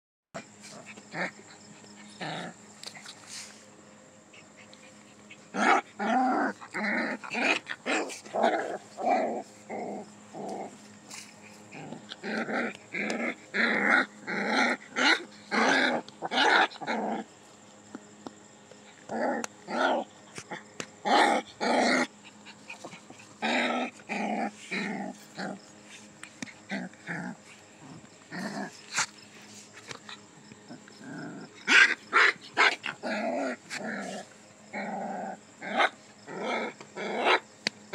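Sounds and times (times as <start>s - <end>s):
puppies growling: 0.4s - 3.6s, 4.2s - 17.4s, 18.8s - 37.5s.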